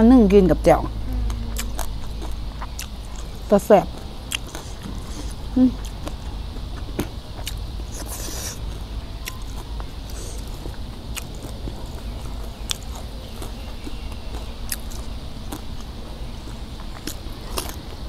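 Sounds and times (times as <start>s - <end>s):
close chewing: 1.2s - 18.0s.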